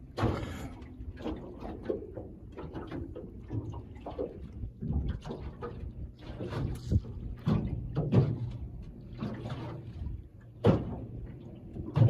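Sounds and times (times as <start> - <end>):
waves slapping boat hull: 0.0 - 12.0.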